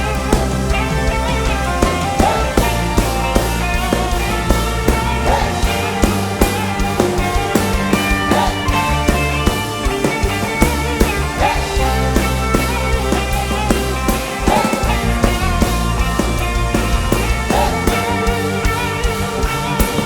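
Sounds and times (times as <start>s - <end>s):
bass: 0.0s - 20.0s
drum kit beat: 0.0s - 20.0s
guitar: 0.0s - 20.0s.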